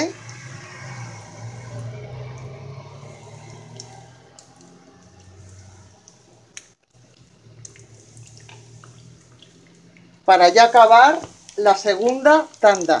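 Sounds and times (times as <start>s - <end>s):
croquettes sizzling in hot oil: 0.0s - 13.0s.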